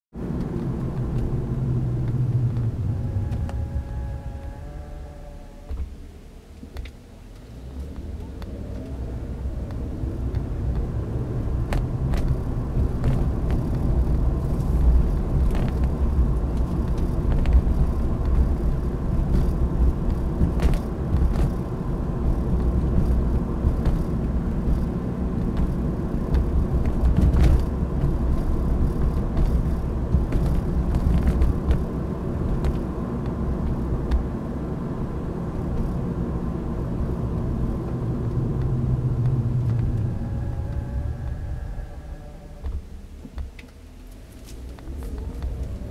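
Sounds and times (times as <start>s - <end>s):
car engine and road rumble: 0.1s - 45.9s.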